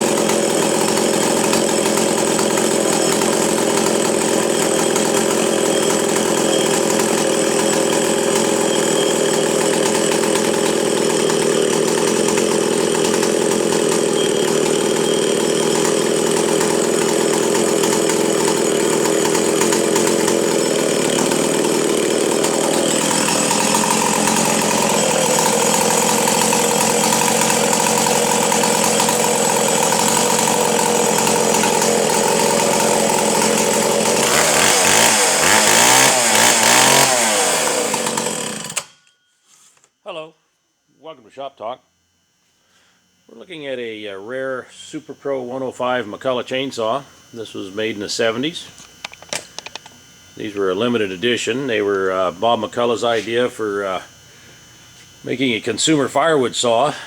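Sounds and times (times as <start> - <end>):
chainsaw engine running: 0.0 - 39.0, 43.2 - 57.0.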